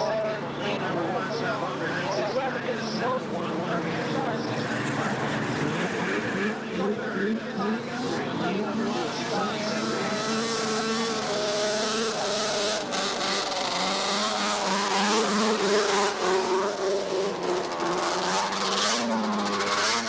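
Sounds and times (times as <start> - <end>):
snowmobile engines racing: 0.0 - 20.0.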